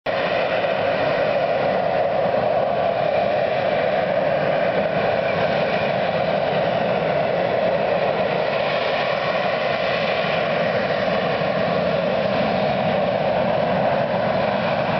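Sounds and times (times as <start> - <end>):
faint steady whine: 0.1 - 14.9
jet engine noise: 0.1 - 14.9.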